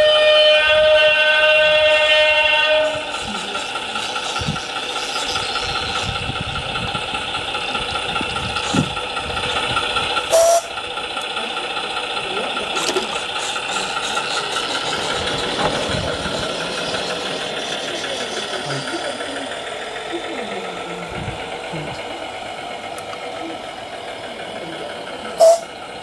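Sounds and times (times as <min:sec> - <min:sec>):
model train running past: 0:00.0 - 0:26.0.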